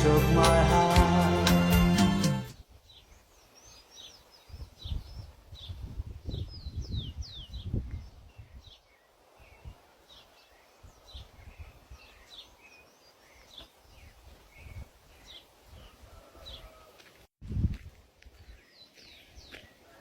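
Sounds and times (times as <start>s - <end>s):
small birds chirping: 2.5s - 16.8s, 18.2s - 20.0s.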